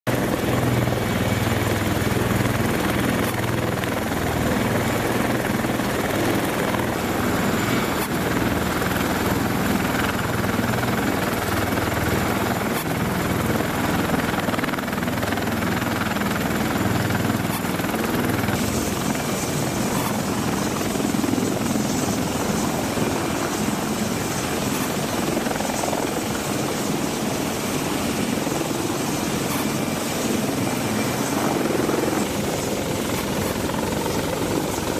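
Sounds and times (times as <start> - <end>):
helicopter hovering: 0.1 - 34.9.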